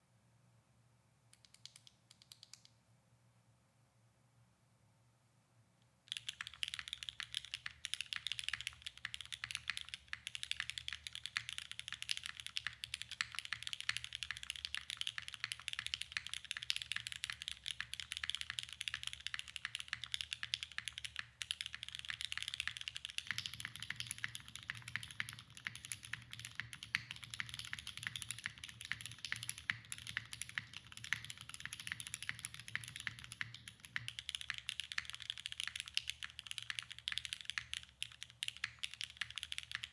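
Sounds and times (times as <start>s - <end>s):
mechanical keyboard typing: 1.4s - 2.7s, 6.1s - 39.9s.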